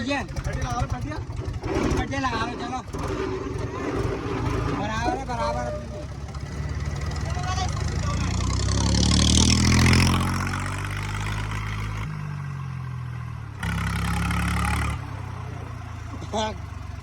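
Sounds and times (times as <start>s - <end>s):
diesel tractor engines revving: 0.0s - 17.0s.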